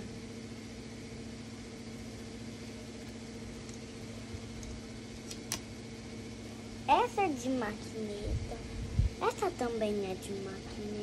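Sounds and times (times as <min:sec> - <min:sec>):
machine humming: 0:00.0 - 0:11.0.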